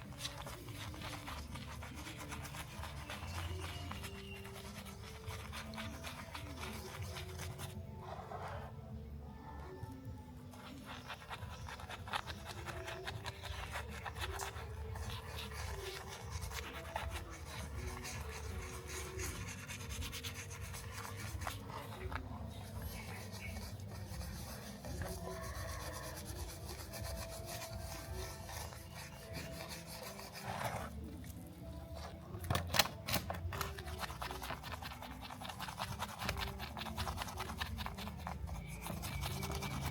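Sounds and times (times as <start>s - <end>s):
abrasive sanding and scraping: 0.0s - 8.8s, 10.5s - 32.3s, 33.1s - 39.9s.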